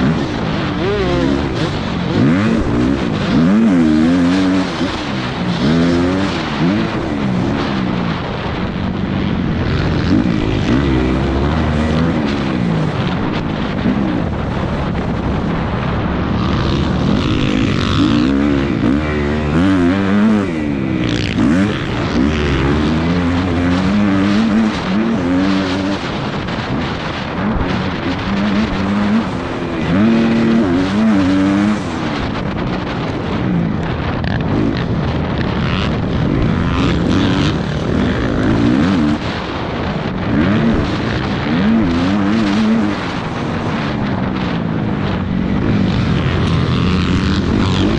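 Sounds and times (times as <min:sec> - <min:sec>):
dirt bike engine racing: 0:00.0 - 0:47.9.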